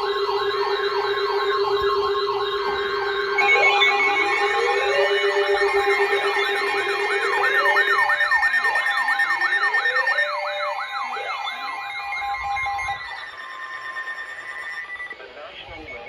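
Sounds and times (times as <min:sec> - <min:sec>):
warbling emergency siren: 0:00.0 - 0:16.0.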